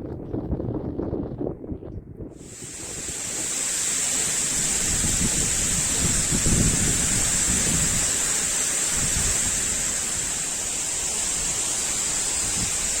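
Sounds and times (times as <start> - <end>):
wind buffeting microphone: 0.0 - 13.0
waterfall rushing: 2.4 - 13.0.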